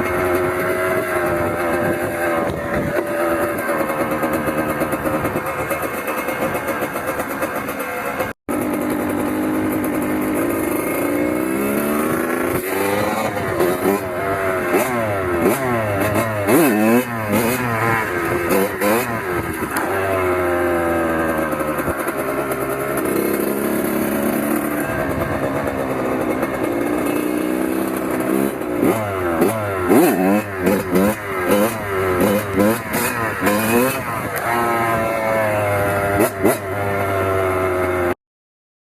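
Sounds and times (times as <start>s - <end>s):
dirt bike engine revving: 0.0s - 38.2s.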